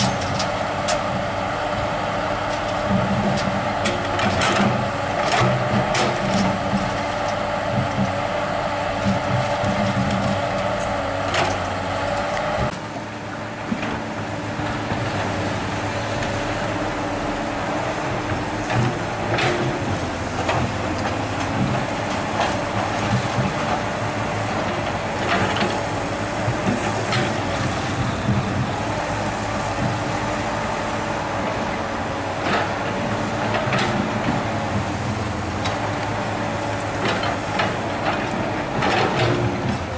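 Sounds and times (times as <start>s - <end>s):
dump truck engine under load: 0.0s - 39.9s
excavator diesel engine whining: 0.0s - 39.9s.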